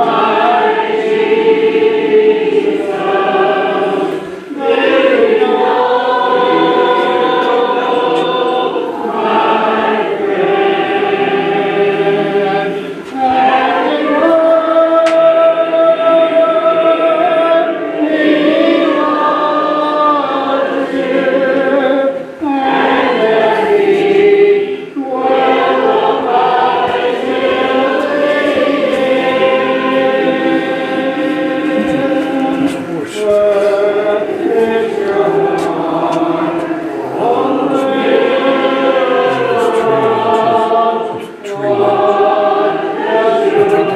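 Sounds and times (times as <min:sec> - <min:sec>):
congregation singing a hymn: 0:00.0 - 0:43.9.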